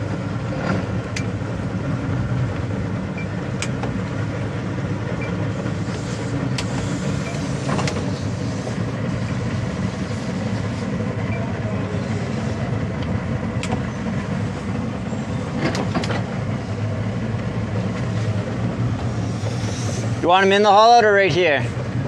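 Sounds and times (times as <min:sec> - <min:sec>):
boat engines humming: 0:00.0 - 0:22.0.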